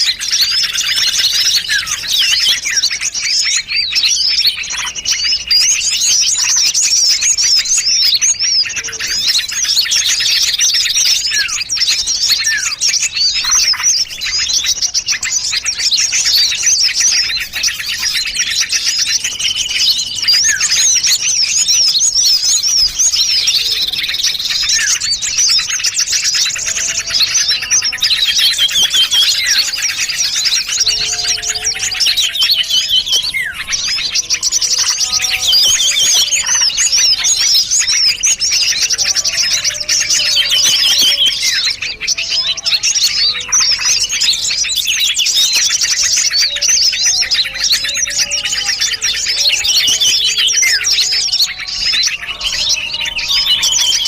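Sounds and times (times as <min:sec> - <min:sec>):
low whistled bird notes: 0:00.0 - 0:54.0
songbirds chirping and trilling: 0:00.0 - 0:54.0.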